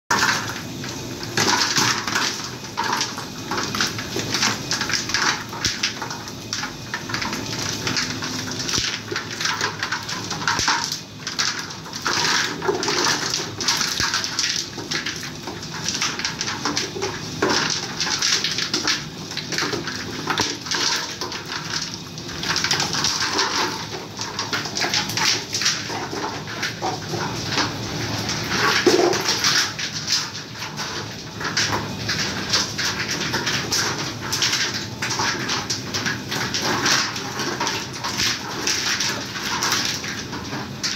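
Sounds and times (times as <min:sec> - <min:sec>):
dough mixer running: 0:00.1 - 0:40.9.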